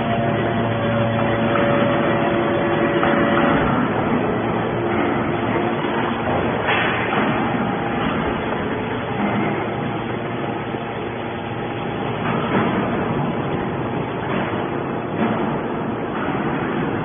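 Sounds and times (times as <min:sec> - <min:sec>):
hydraulic baler running: 0:00.0 - 0:17.0.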